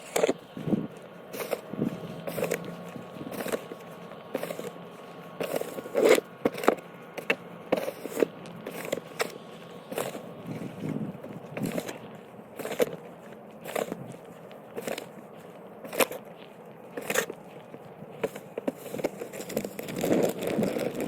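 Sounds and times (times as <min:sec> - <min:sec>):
crunching strokes on snow: 0:00.0 - 0:21.0
faint steady hum: 0:00.0 - 0:21.0.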